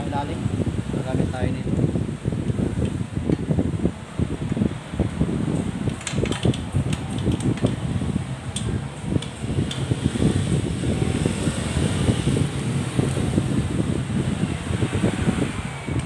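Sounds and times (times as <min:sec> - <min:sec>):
air rumble on microphone: 0:00.0 - 0:16.0.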